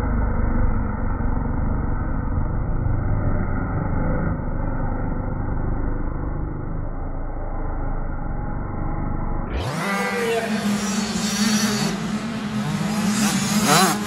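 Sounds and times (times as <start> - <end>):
motocross bike engines racing: 0.0 - 14.0.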